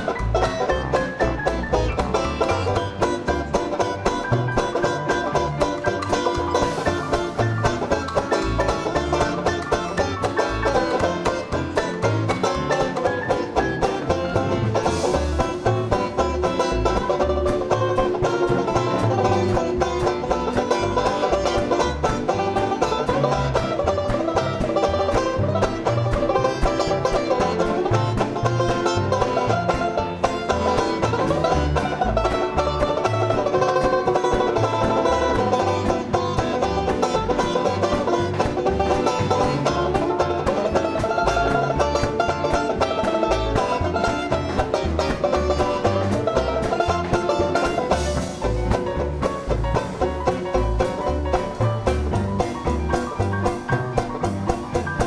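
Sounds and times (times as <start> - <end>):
dance orchestra playing: 0.0 - 55.0
strummed banjo chords: 0.0 - 55.0.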